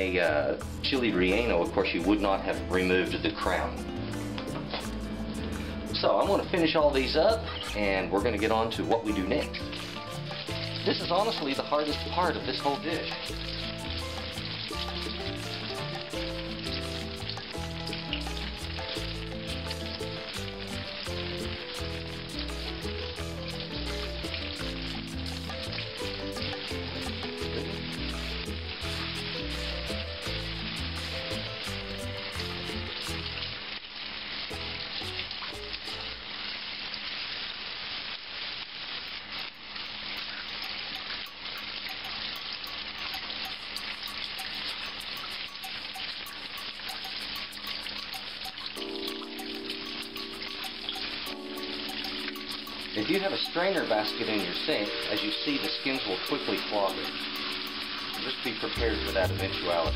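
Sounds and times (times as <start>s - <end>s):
faucet water splashing in sink: 0.0s - 37.1s, 39.0s - 59.9s.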